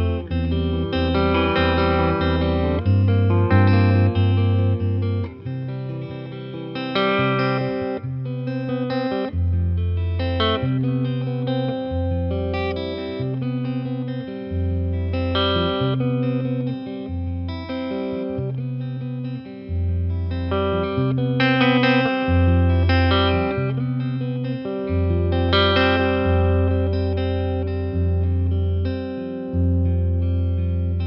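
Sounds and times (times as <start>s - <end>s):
electric guitar blues-jazz playing: 0.0s - 31.0s.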